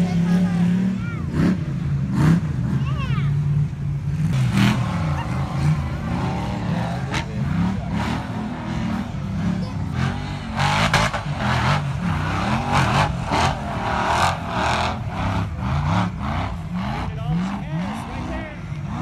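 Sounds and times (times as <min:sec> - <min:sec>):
buggy engine revving hard: 0:00.0 - 0:19.0.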